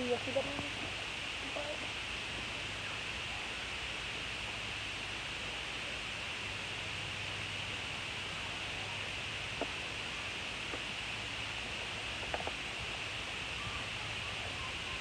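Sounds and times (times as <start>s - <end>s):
faint low hum: 0.0s - 15.0s
steady background hiss: 0.0s - 15.0s.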